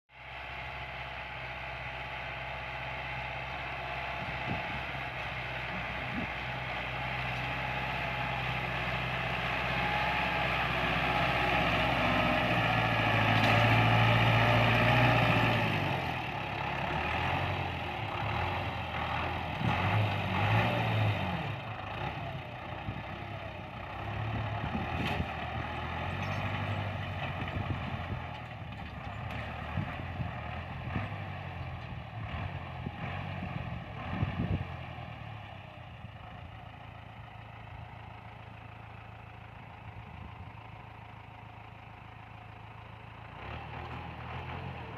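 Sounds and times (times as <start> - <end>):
tractor engine running: 0.1 - 44.9.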